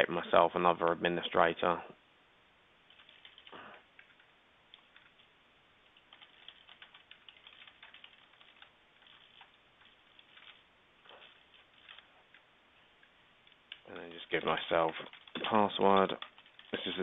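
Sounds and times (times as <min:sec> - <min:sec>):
faint keyboard typing: 0:02.9 - 0:17.0.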